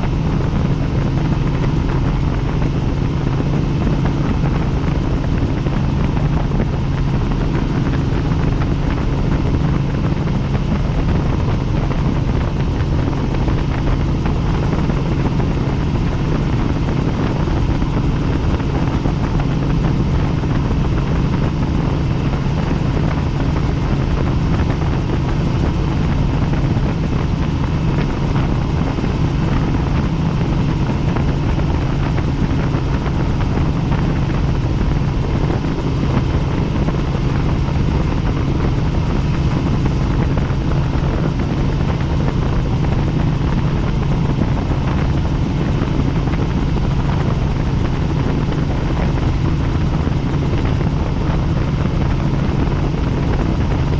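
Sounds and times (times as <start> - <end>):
helicopter rotor drone: 0.0 - 53.9.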